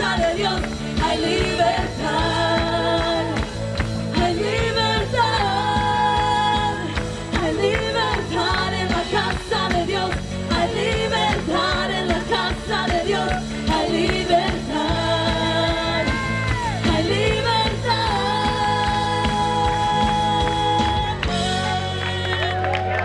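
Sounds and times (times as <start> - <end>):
band playing worship music: 0.0 - 23.0
person singing: 4.2 - 23.0.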